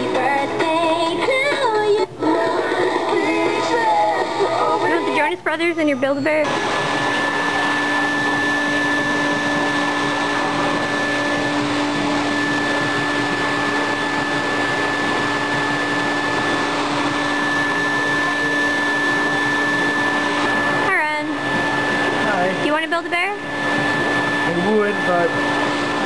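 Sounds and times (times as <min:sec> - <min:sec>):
stuffing machine blower running: 0:02.2 - 0:26.0.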